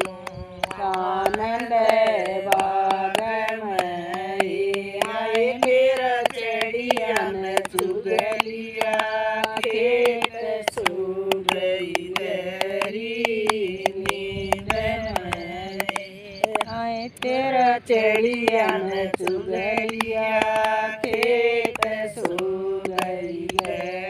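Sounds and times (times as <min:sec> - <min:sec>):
sharp percussive clicks: 0:00.0 - 0:24.0
voices singing devotional chant: 0:00.0 - 0:24.0.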